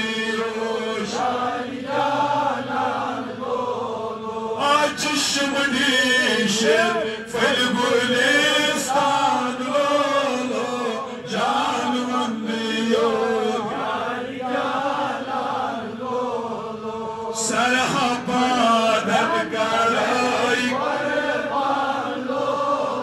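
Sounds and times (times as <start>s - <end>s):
person chanting devotional poem: 0.0s - 23.0s.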